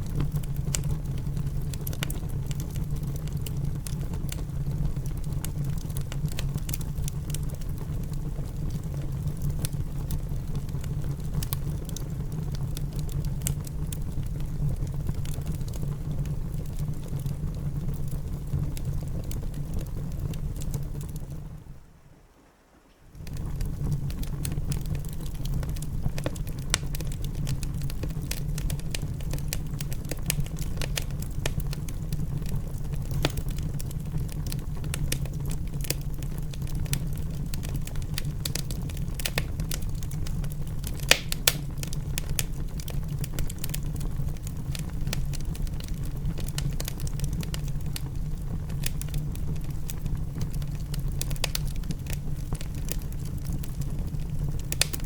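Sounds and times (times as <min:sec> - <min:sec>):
fire pops and snaps: 0:00.0 - 0:21.6, 0:23.1 - 0:55.0
wood fire crackling: 0:00.0 - 0:55.0.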